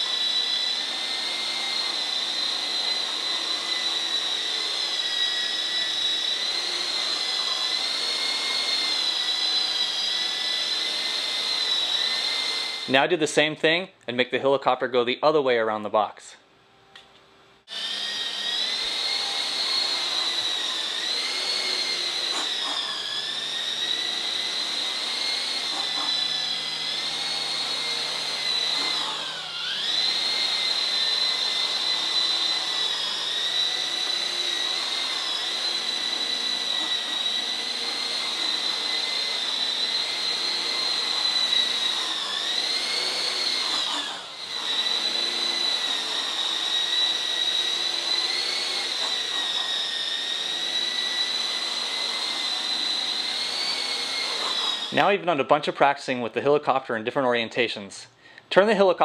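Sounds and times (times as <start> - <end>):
rc helicopter rotors whining: 0.0 - 13.2, 17.6 - 55.3.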